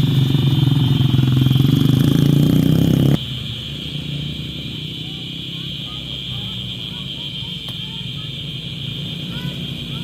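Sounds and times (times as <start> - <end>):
steady high-pitched hum: 0.0 - 10.0
vehicle engine running: 0.0 - 10.0.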